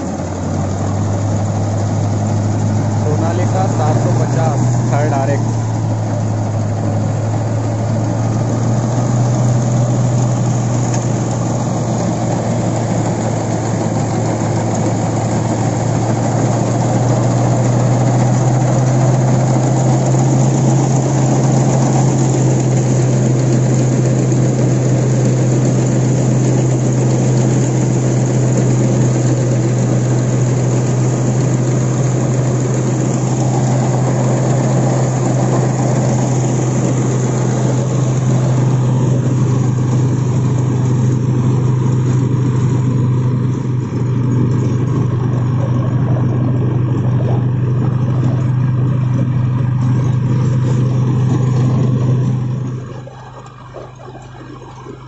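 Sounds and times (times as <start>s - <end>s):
reaper mechanical cutting noise: 0.0s - 55.0s
tractor diesel engine running: 0.0s - 55.0s.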